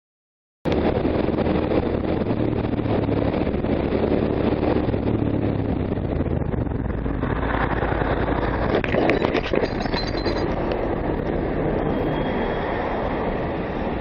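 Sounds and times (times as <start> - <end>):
road noise: 0.7 - 14.0
vehicle engine hum: 0.7 - 14.0.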